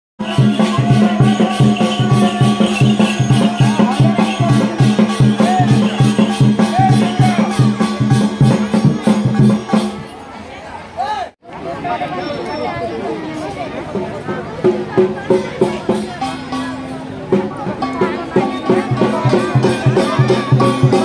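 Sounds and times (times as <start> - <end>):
drums and rattles beat: 0.2 - 10.3, 13.8 - 21.0.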